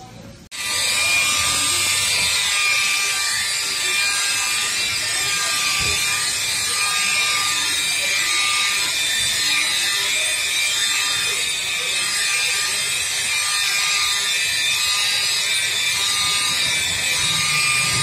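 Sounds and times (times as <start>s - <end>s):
rotary polisher whining: 0.5s - 18.0s.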